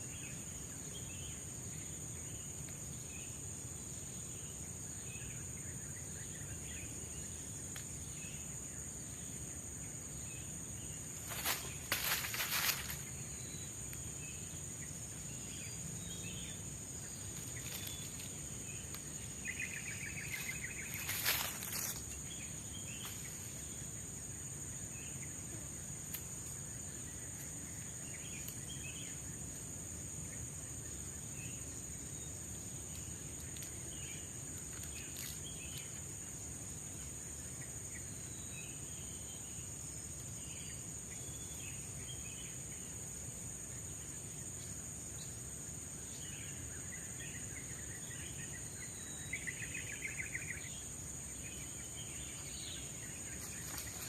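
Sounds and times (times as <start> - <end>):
forest insects droning: 0.0 - 54.0.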